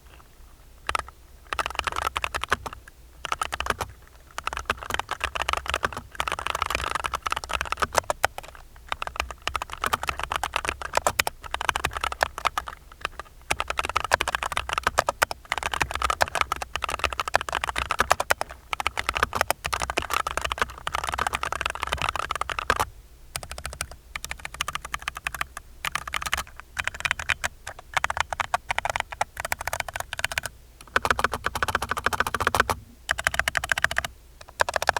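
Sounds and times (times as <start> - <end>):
mechanical keyboard typing: 0.8 - 34.9.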